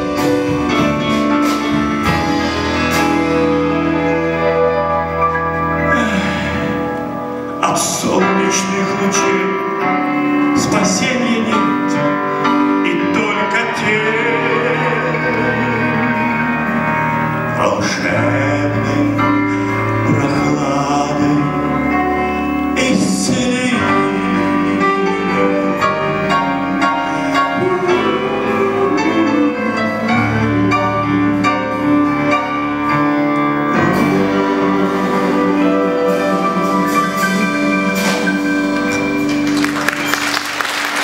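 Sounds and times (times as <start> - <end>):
bass guitar: 0.0 - 40.5
drums: 0.0 - 41.0
grand piano: 0.0 - 41.0.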